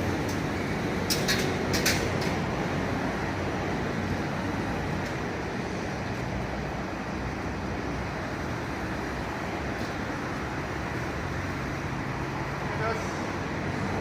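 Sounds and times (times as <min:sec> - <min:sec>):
street traffic: 0:00.0 - 0:14.0
vehicle engine rumbling: 0:00.0 - 0:14.0.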